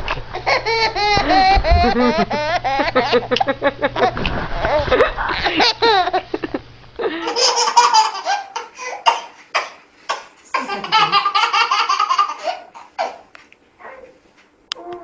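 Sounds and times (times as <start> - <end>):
baby laughing: 0.3 - 6.4, 7.1 - 13.3.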